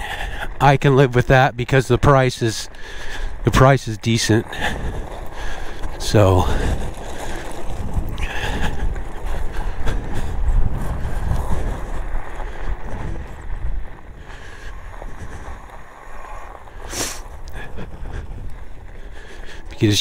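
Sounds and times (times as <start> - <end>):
bike tyres rolling over gravel: 0.0 - 20.0
wind buffeting microphone: 0.0 - 20.0.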